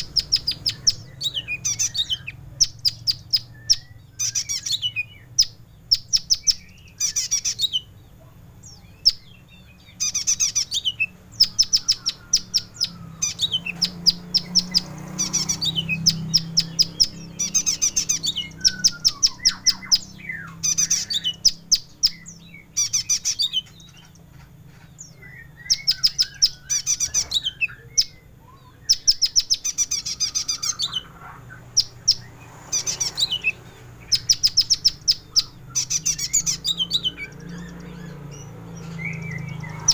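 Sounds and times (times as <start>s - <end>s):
bird singing trilled phrases: 0.0s - 39.9s.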